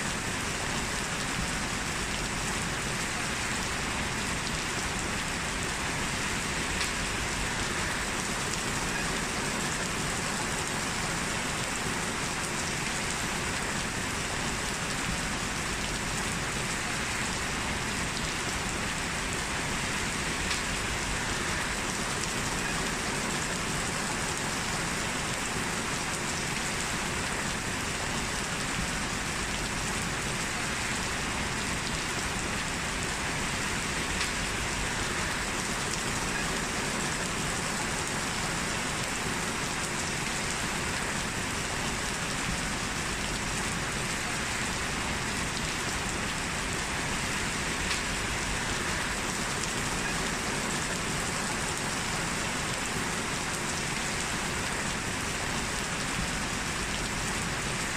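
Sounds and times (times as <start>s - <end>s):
steady rainfall: 0.0s - 57.9s.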